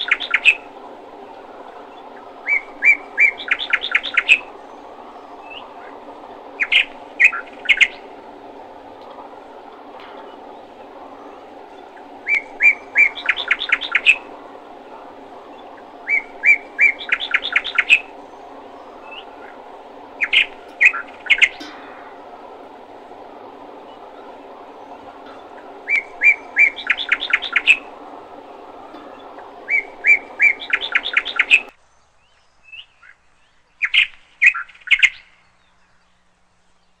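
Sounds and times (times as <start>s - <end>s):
steady hum: 0.0s - 31.8s
songbird chirping and trilling: 0.0s - 37.0s.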